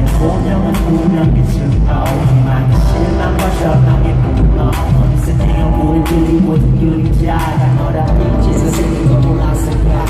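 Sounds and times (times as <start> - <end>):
loud live pop music: 0.0 - 10.0
person singing: 0.0 - 10.0.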